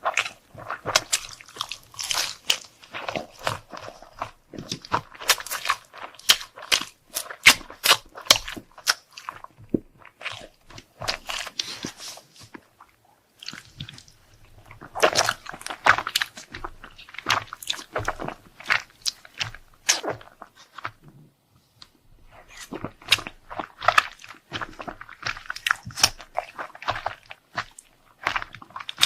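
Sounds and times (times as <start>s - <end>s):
chewing crunchy food: 0.0s - 29.0s.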